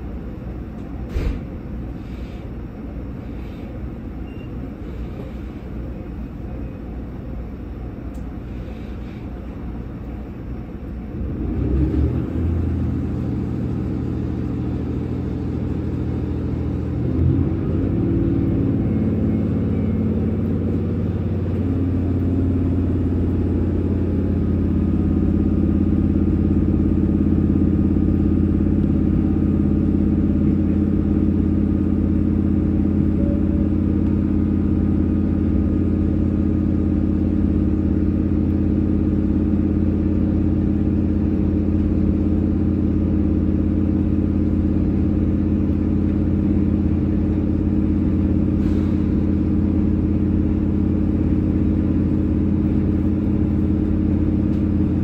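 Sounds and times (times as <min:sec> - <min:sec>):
train low rumble: 0:00.0 - 0:55.0
train drive humming rising in pitch: 0:09.5 - 0:55.0.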